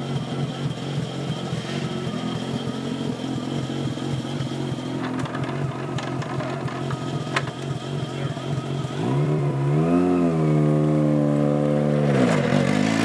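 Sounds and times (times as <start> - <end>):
rotary engine running: 0.0 - 11.0.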